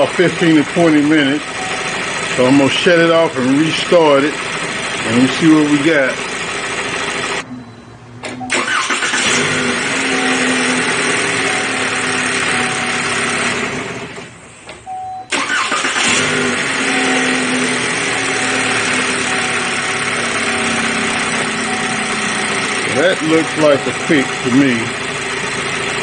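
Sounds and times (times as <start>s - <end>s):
car engine starting and idling: 0.0s - 26.0s.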